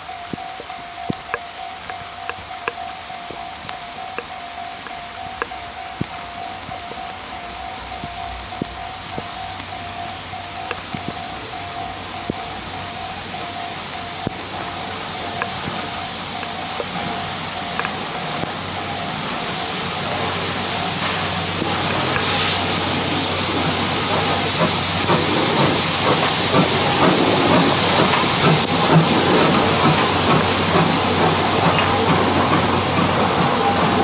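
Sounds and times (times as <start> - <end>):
steam hissing: 0.0 - 34.0
train wheels rumbling and clattering: 0.0 - 34.0.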